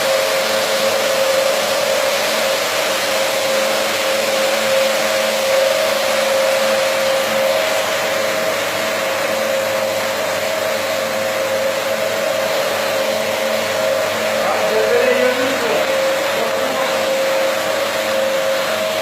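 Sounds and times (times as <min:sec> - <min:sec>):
carpet washing machine running: 0:00.0 - 0:19.0.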